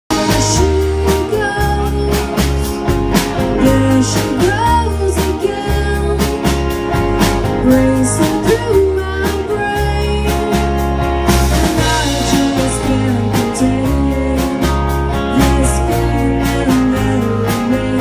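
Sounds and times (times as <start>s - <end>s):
bass guitar: 0.0s - 18.0s
person singing: 0.1s - 6.8s, 7.5s - 10.8s, 11.4s - 18.0s
electric guitar: 0.1s - 18.0s
steady drum beat: 0.1s - 18.0s.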